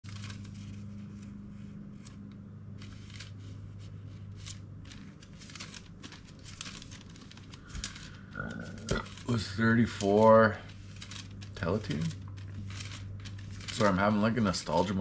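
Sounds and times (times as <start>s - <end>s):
low electrical hum: 0.0s - 15.0s
faint rustling: 0.1s - 15.0s.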